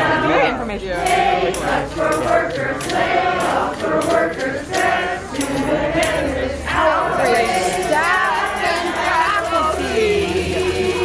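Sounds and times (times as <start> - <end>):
group singing a carol: 0.0 - 11.0.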